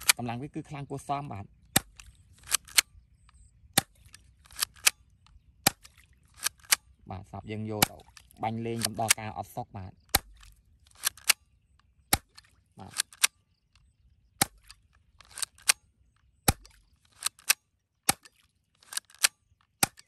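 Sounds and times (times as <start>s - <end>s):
bb pistol firing cracks: 0.0s - 0.3s, 1.7s - 7.0s, 7.7s - 9.4s, 10.0s - 20.0s.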